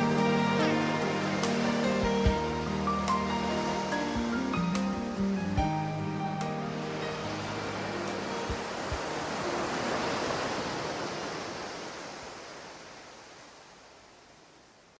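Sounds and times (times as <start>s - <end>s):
steady rushing noise: 0.0s - 12.5s.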